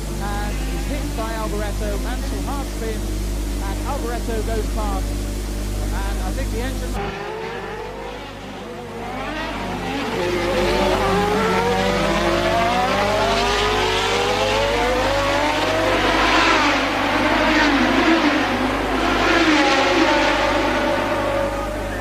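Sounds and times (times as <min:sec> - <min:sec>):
race car engines accelerating: 0:00.0 - 0:22.0.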